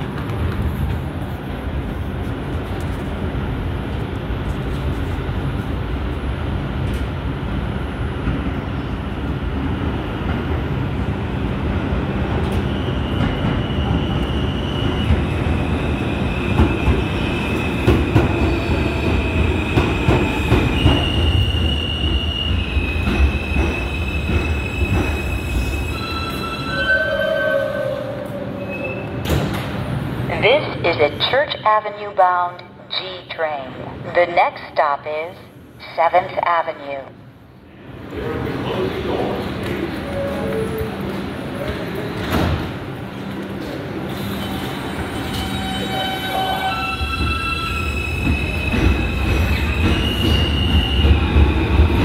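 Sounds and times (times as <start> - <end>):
train wheels rumbling on rail: 0.0 - 30.3, 37.8 - 52.0.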